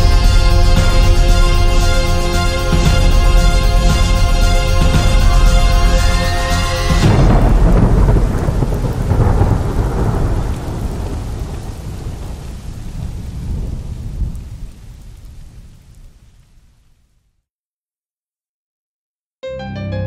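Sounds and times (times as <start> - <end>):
thunder rumble: 0.0 - 16.9
rain hiss: 0.0 - 17.4.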